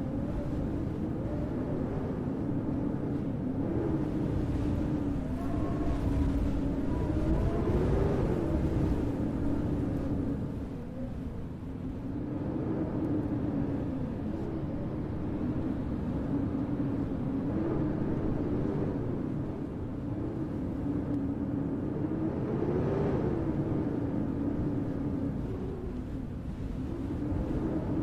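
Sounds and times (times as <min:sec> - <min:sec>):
howling blizzard wind: 0:00.0 - 0:28.0.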